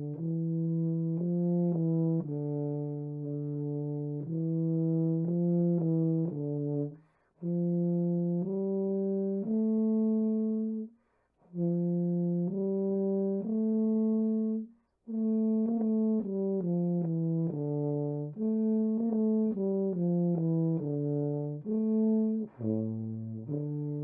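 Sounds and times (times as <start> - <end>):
tuba playing held notes: 0.0 - 24.0.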